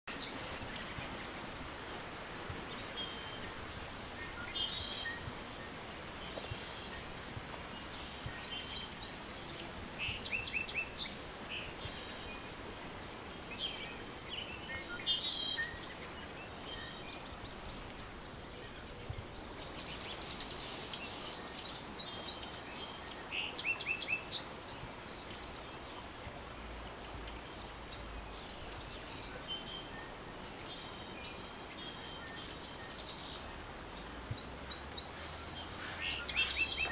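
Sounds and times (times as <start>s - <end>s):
steady background hiss: 0.1s - 36.9s
birds singing: 2.7s - 12.6s, 13.2s - 26.1s, 27.2s - 36.9s.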